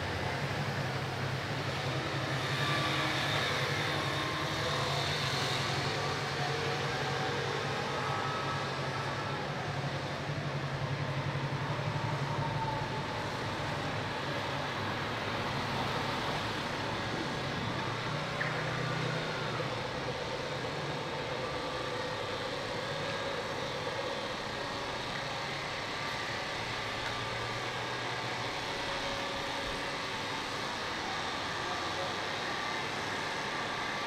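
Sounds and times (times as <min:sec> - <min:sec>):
city street traffic: 0:00.0 - 0:34.0
vehicle engine humming: 0:00.0 - 0:34.0.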